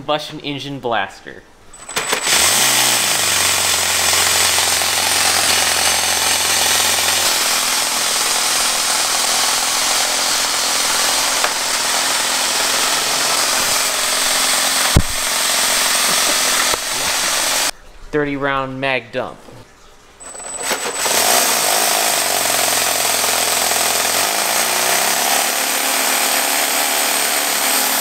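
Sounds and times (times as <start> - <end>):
model engine buzzing: 1.8 - 17.7, 20.2 - 28.0.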